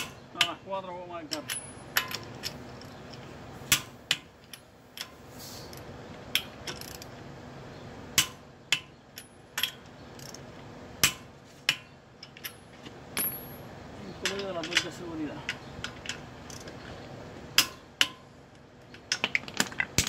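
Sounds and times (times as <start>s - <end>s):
metallic clicks of lug nuts: 1.3s - 7.2s, 8.2s - 13.6s, 14.2s - 20.0s.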